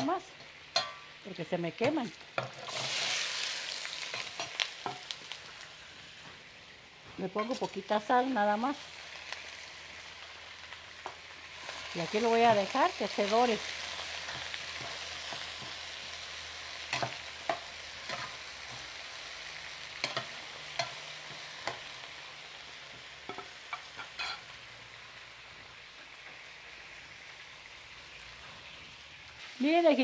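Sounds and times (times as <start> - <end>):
vegetables sizzling in a pot: 0.0 - 30.0.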